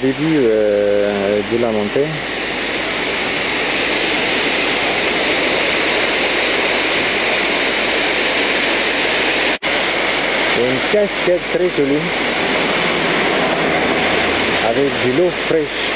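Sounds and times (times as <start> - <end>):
rushing falling water: 0.0 - 15.9.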